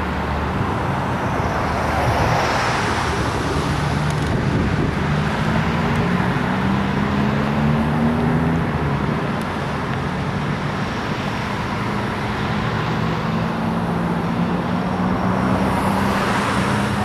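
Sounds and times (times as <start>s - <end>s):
cars driving past: 0.0s - 17.0s
low engine hum: 0.0s - 17.0s.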